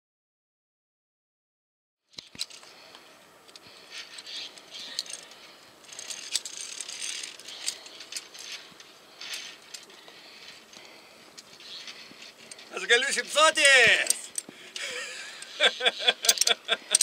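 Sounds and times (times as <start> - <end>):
metal carabiners clicking on cable: 2.1 - 17.0.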